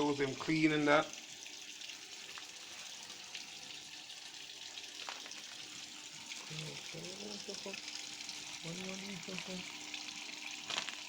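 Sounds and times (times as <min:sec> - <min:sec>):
washing machine running: 0:00.0 - 0:11.0.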